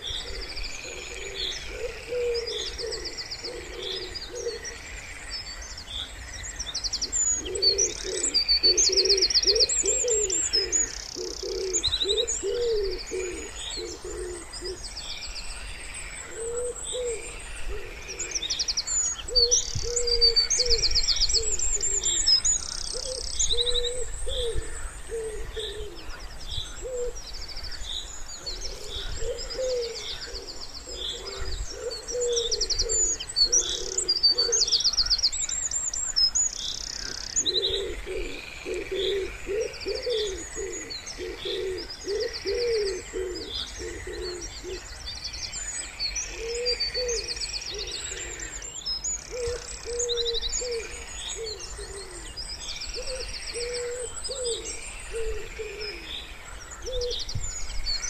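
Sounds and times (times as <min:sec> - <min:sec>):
wood pigeons cooing: 0:00.0 - 0:04.9, 0:07.0 - 0:14.9, 0:16.1 - 0:18.6, 0:19.2 - 0:27.3, 0:28.3 - 0:35.2, 0:36.8 - 0:44.9, 0:46.2 - 0:48.7, 0:49.3 - 0:57.3
songbirds chirping and trilling: 0:00.0 - 0:58.0.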